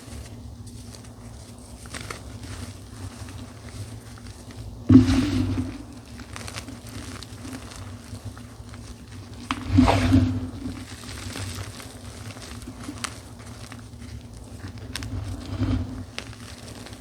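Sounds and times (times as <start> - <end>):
chalk crunching by hand: 0.0 - 17.0
low steady hum: 0.0 - 17.0.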